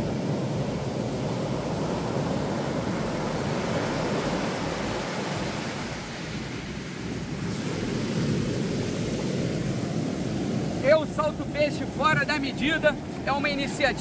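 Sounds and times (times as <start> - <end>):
surf breaking on a beach: 0.0 - 14.0
wind: 0.0 - 14.0.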